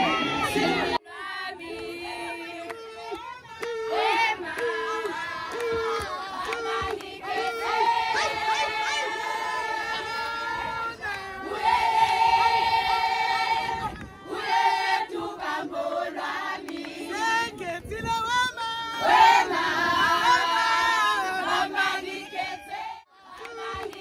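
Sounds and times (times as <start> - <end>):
women singing together: 0.0 - 24.0.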